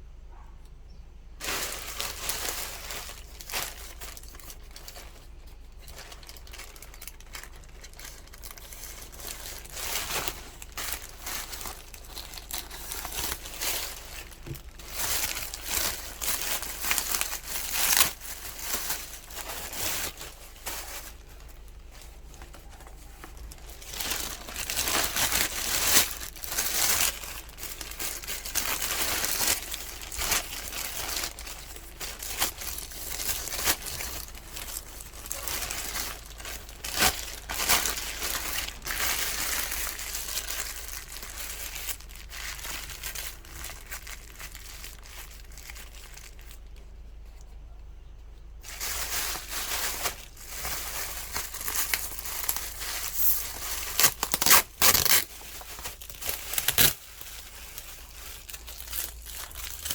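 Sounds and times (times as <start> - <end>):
crinkling and rustling: 1.4 - 59.9.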